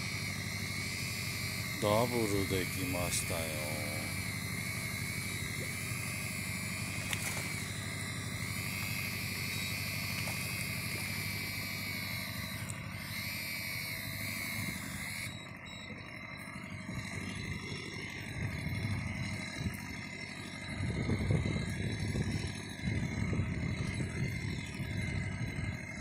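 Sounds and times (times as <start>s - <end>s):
fishing reel motor whine: 0.0s - 26.0s
low steady rumble: 0.0s - 26.0s.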